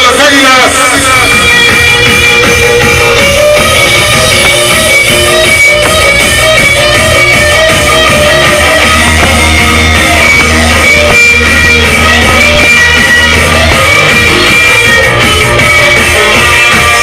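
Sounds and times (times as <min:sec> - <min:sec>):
loud guitar music with heavy bass: 0:00.0 - 0:17.0.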